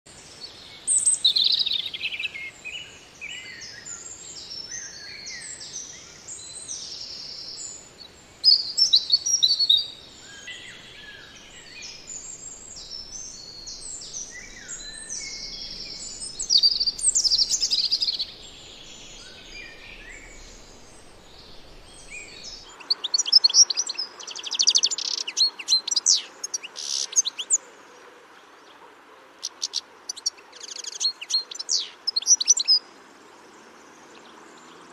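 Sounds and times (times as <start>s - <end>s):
songbird singing: 0.1s - 34.9s
bird chirps and trills: 0.4s - 27.6s, 29.4s - 32.8s.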